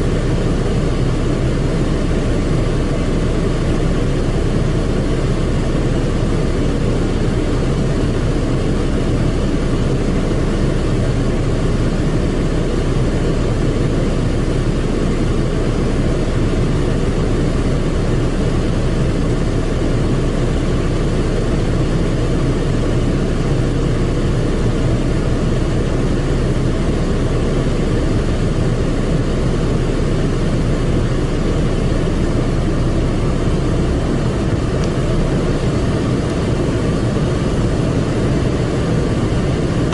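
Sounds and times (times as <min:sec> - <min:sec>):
car wash machine rumbling rush: 0:00.0 - 0:39.9.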